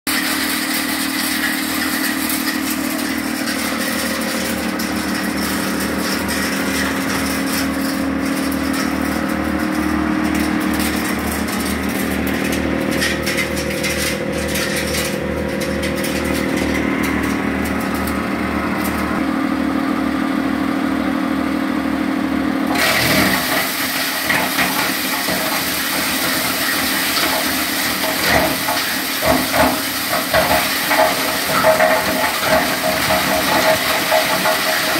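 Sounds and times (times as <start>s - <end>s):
wood crusher machine running: 0.1s - 34.9s.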